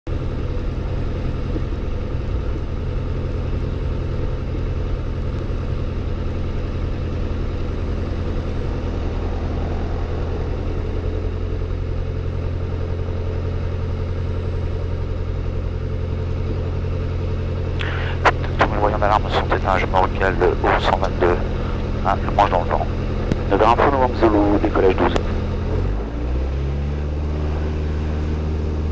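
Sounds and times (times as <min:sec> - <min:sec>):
aircraft piston engine running: 0:00.1 - 0:26.0.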